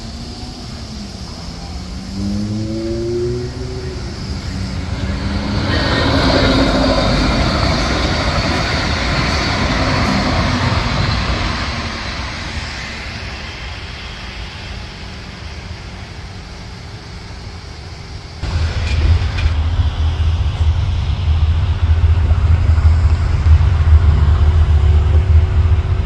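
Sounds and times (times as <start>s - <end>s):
train wheel and air rush: 0.0s - 26.0s.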